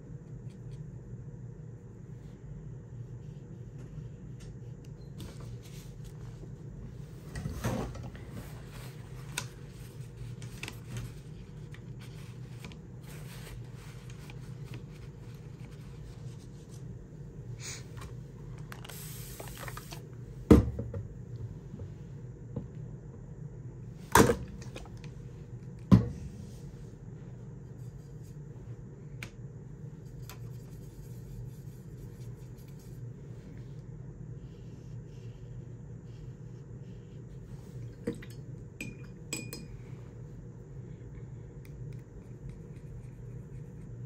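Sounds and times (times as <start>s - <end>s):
low background hum: 0.0s - 44.0s.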